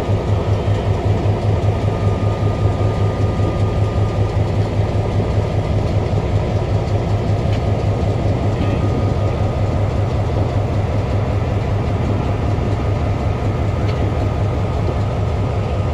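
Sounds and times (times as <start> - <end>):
locomotive diesel engine throbbing: 0.0 - 15.9.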